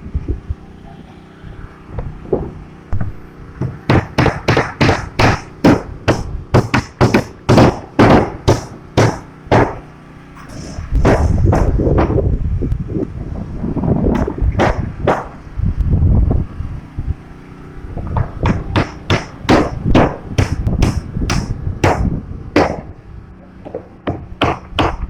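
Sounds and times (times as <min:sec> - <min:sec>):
steady rumbling noise: 0:00.0 - 0:25.0
hammering blows: 0:00.4 - 0:15.6, 0:17.5 - 0:25.0.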